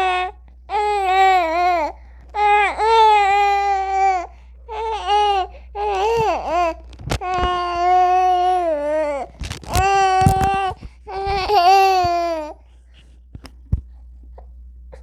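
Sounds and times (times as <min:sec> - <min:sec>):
newborn baby crying: 0:00.0 - 0:12.6.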